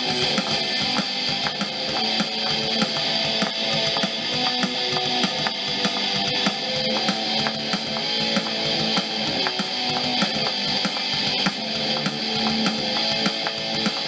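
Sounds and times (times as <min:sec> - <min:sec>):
programmed rock drum beat: 0:00.0 - 0:14.0
rock guitar: 0:00.0 - 0:14.0.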